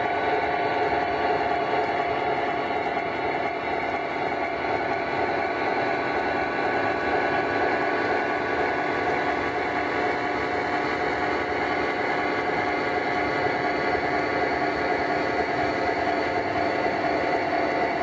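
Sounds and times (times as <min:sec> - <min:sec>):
model train rumbling on track: 0:00.0 - 0:18.0.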